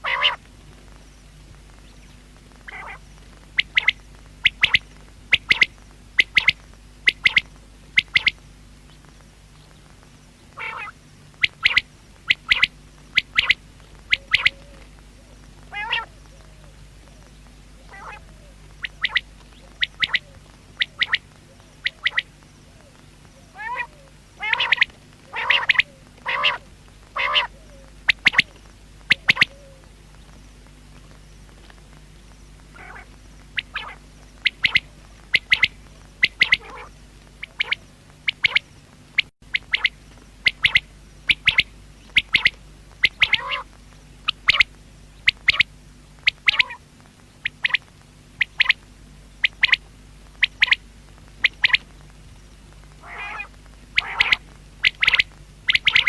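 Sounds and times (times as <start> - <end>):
quail calling: 0.0 - 0.4, 2.6 - 8.4, 10.5 - 29.9, 32.7 - 48.8, 49.4 - 50.8, 51.4 - 51.9, 53.0 - 56.0
steady low hum: 0.0 - 56.0.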